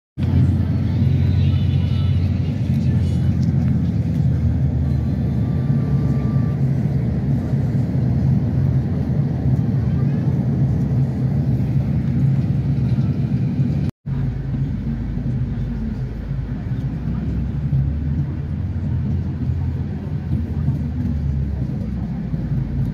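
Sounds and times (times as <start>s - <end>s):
road rumble inside moving vehicle: 0.2s - 22.9s.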